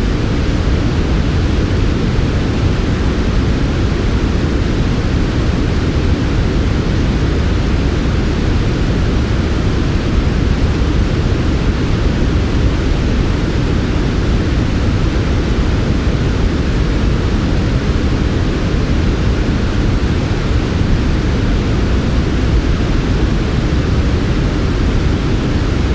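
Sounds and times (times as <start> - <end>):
white noise: 0.0 - 25.9.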